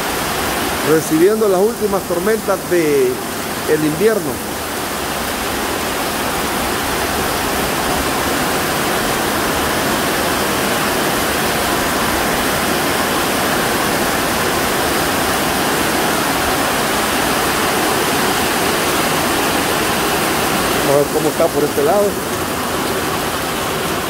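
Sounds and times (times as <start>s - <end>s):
heavy rain on a metal roof: 0.0s - 24.0s.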